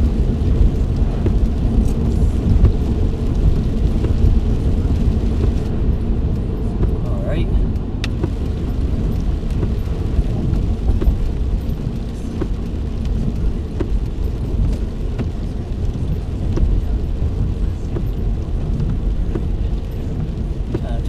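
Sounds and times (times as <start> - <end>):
car road and engine rumble: 0.0 - 21.0
raindrops ticking on car: 0.0 - 21.0.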